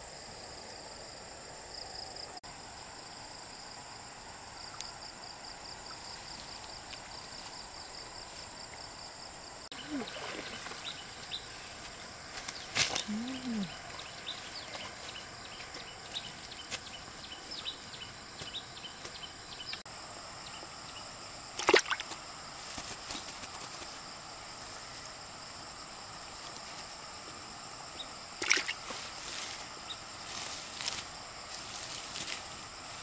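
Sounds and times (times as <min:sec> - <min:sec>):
high insect buzz: 0:00.0 - 0:33.0.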